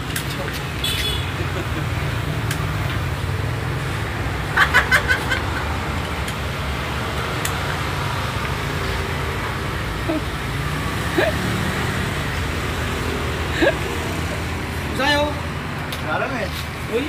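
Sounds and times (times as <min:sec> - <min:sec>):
motor traffic rumble: 0:00.0 - 0:17.0.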